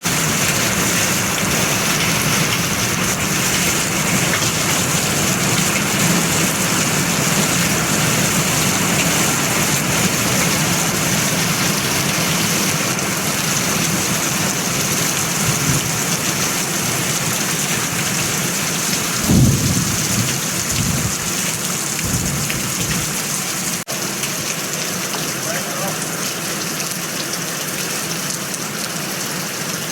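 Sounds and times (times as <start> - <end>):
hail on a metal roof: 0.0 - 29.9.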